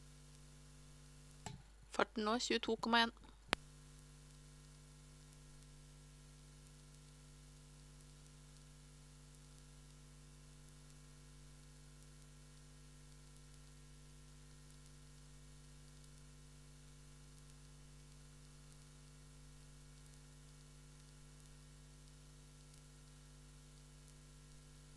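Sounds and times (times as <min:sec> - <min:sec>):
electrical hum: 0:00.0 - 0:24.9
faint hiss: 0:00.0 - 0:24.9.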